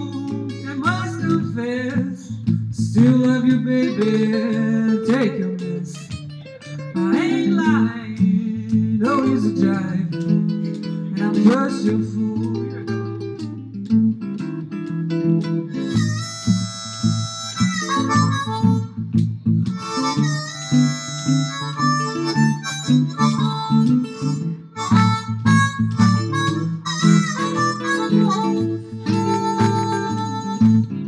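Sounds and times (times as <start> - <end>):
blues harmonica: 0.0 - 31.0
guitar accompaniment: 0.0 - 31.0.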